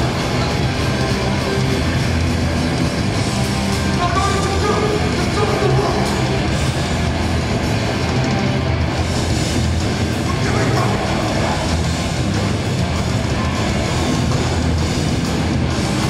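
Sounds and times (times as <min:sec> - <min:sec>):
distorted electric guitars: 0:00.0 - 0:16.0
punk band playing live: 0:00.0 - 0:16.0.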